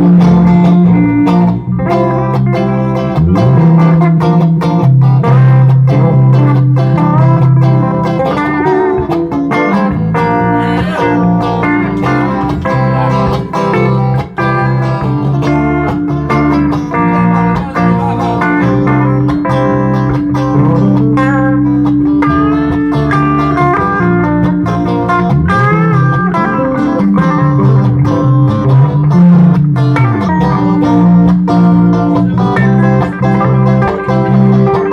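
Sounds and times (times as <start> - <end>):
plucked guitar notes: 0.0 - 34.9
steady bass line: 0.0 - 34.9.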